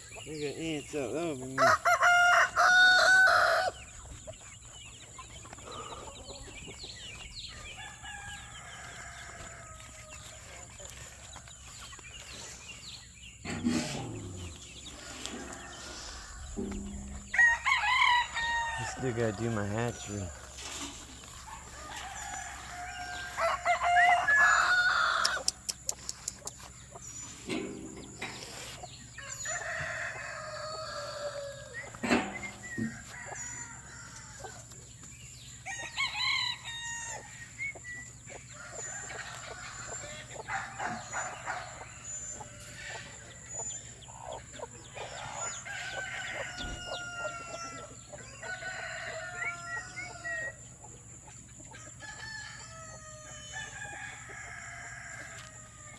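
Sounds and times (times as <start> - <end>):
chickens clucking: 0.0 - 55.9
roosters crowing: 0.0 - 55.9.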